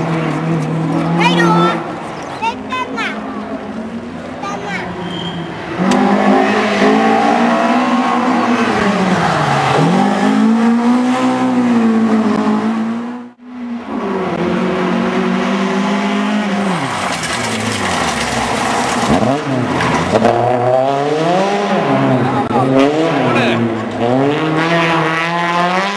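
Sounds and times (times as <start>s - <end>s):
rally car engines revving: 0.0s - 25.9s.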